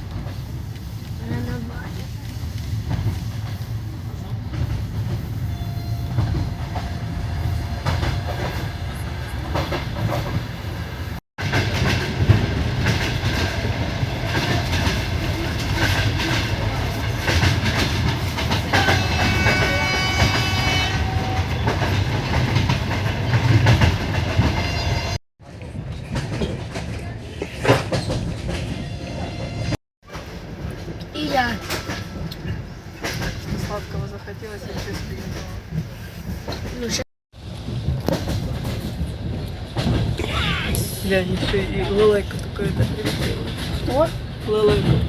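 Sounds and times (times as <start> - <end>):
train carriage rumble: 0.0 - 45.0.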